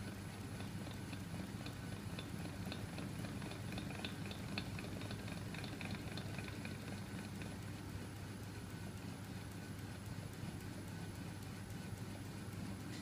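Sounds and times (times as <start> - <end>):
motor hum: 0.0 - 13.0
uneven mechanical ticking: 0.0 - 13.0.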